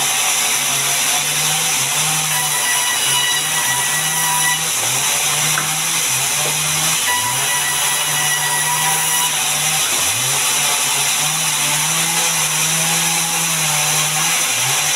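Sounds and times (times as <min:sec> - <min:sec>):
band saw whirring: 0:00.0 - 0:14.9.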